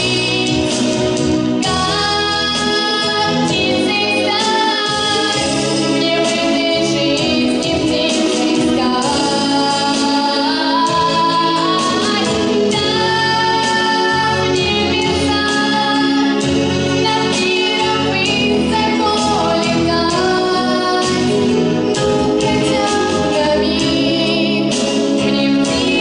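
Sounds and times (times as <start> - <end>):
girl singing into microphone: 0.0 - 0.7, 1.6 - 16.4, 17.0 - 26.0
instrumental accompaniment: 0.0 - 26.0.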